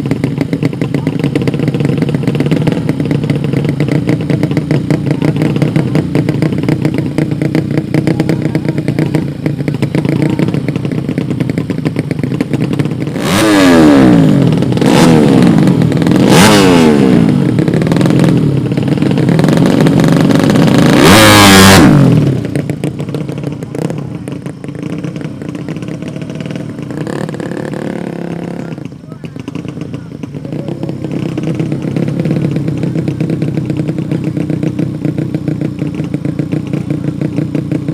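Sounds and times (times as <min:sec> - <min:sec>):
motorcycles accelerating: 0:00.0 - 0:37.9.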